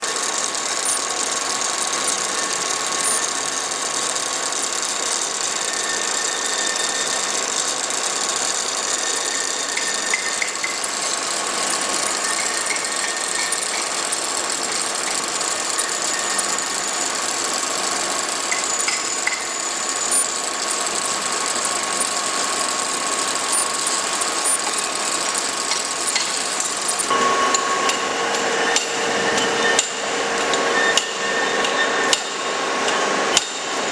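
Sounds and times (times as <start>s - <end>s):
metalworking machinery clattering: 0.0s - 33.9s.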